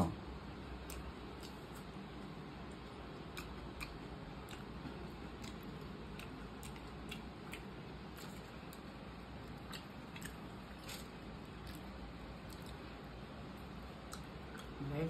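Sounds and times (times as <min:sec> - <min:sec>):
low room noise: 0:00.0 - 0:15.0
eating clicks and smacks: 0:00.8 - 0:12.9, 0:13.5 - 0:14.8.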